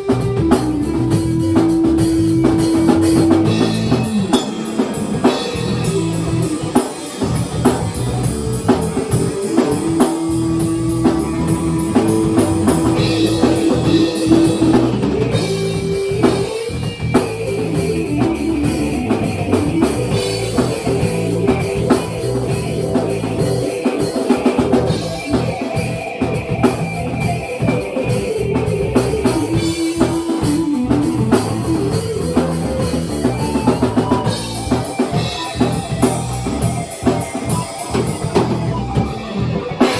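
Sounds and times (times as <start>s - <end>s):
drum kit beat: 0.0s - 39.9s
guitar: 0.0s - 39.9s.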